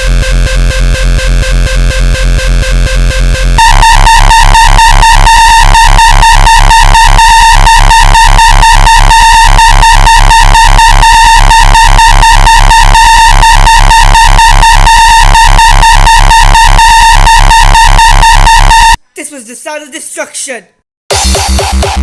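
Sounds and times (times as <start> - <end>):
distorted electronic music: 0.0 - 19.0, 21.1 - 22.0
harsh buzzing tone pulsing: 0.0 - 19.0
heavy bass: 0.0 - 19.1.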